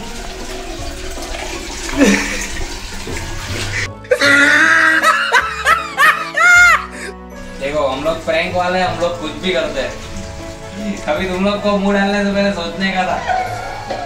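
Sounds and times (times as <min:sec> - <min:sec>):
background music: 0:00.0 - 0:14.0
water splashing and trickling: 0:00.0 - 0:14.0.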